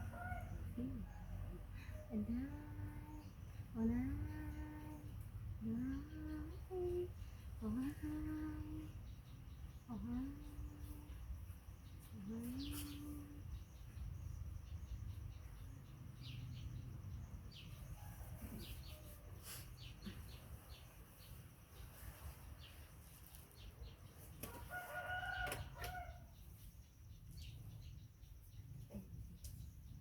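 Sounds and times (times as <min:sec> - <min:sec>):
small birds chirping: 0:01.8 - 0:30.0.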